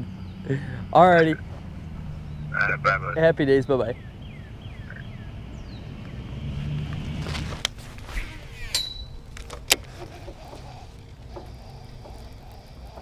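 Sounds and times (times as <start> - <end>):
boat motor rumble: 0.0 - 7.4, 8.2 - 13.0.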